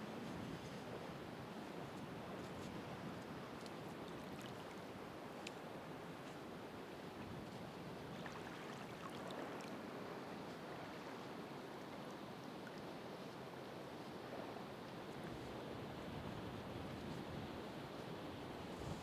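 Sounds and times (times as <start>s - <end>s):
ocean waves washing ashore: 0.1s - 19.0s.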